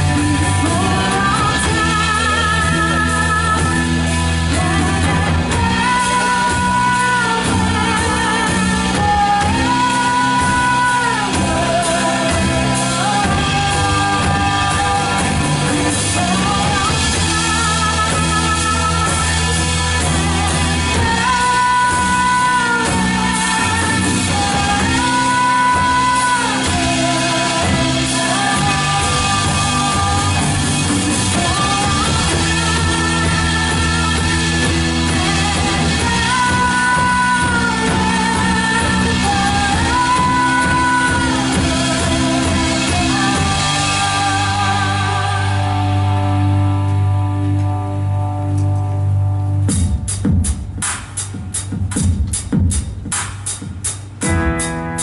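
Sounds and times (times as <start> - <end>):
person singing long notes: 0.0 - 48.8
worship band playing: 0.0 - 55.0.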